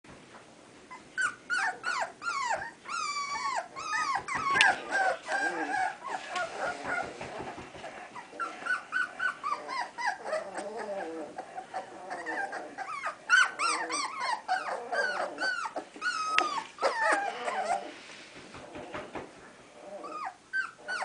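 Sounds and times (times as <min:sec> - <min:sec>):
puppies whining and whimpering: 0:00.9 - 0:18.0, 0:19.8 - 0:21.0.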